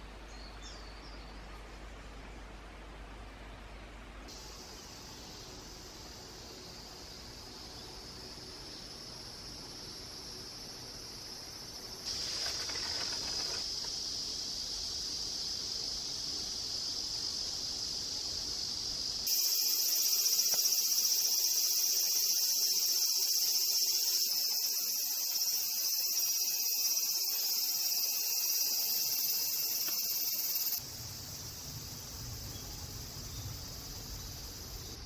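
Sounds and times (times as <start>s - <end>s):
insects chorus: 4.3s - 35.0s.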